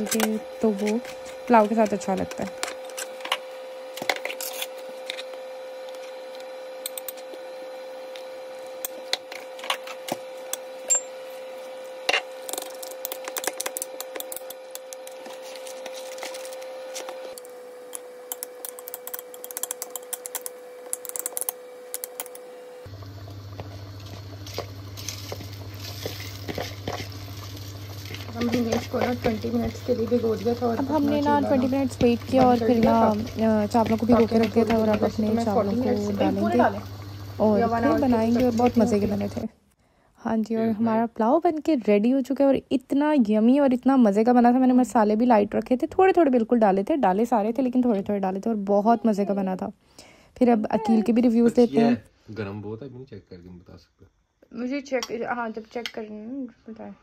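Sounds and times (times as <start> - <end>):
steady hum: 0.0 - 52.8.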